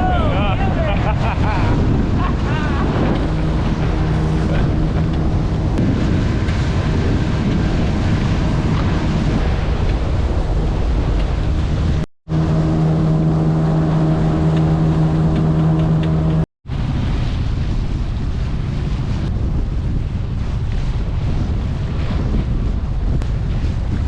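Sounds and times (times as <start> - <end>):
motorboat engine running: 0.0 - 24.0
water rushing past hull: 0.0 - 24.0
wind buffeting microphone: 0.0 - 24.0.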